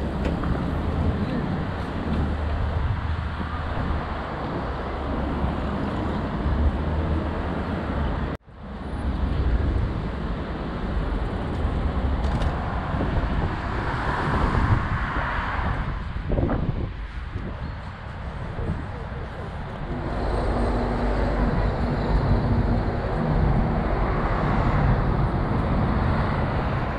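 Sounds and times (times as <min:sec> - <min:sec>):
passing cars rumble: 0:00.0 - 0:26.9.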